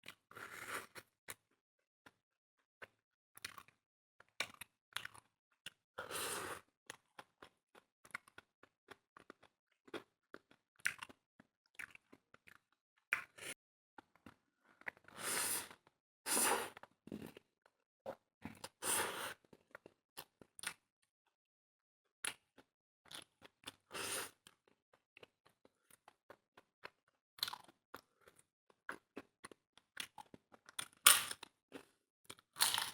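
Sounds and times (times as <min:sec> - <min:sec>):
chewing and crunching food: 0:00.0 - 0:02.2, 0:02.8 - 0:20.9, 0:22.2 - 0:32.9.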